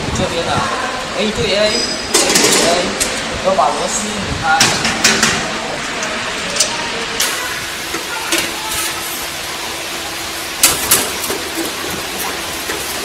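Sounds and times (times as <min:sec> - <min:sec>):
workshop background hiss: 0:00.0 - 0:13.0.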